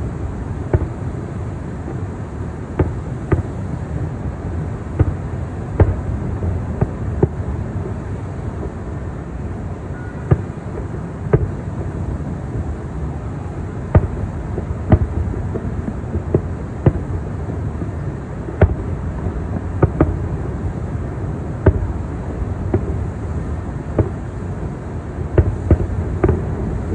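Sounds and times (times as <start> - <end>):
distant firework bangs: 0.6 - 2.1, 2.7 - 4.1, 4.7 - 8.8, 9.9 - 12.7, 13.4 - 20.8, 21.5 - 26.9.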